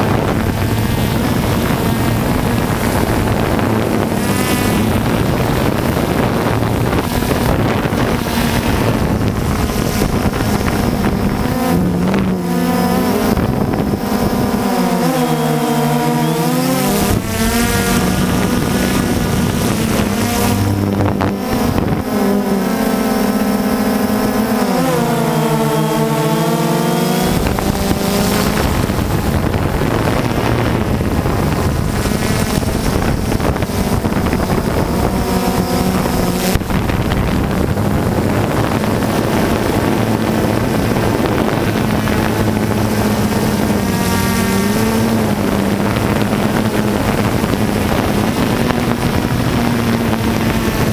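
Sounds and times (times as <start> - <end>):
drone propellers buzzing: 0.0 - 50.9
wind noise on microphone: 0.0 - 50.9.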